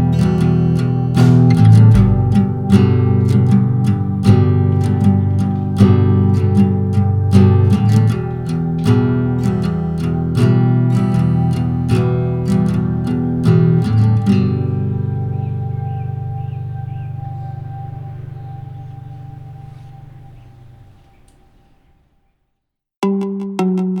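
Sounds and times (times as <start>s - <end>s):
plucked guitar-like instrument: 0.0s - 21.0s, 23.0s - 24.0s.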